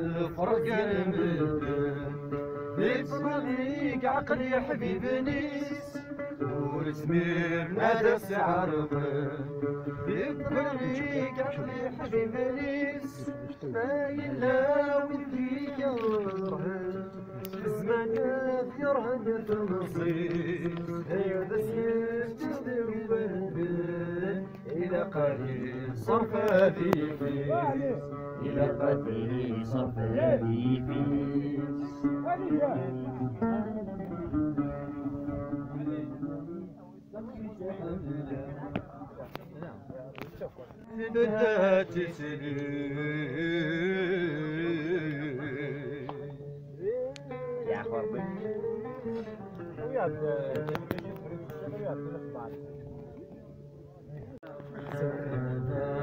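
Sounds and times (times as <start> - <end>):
man singing chant-like song: 0.0 - 39.7, 40.8 - 52.7, 54.2 - 56.0.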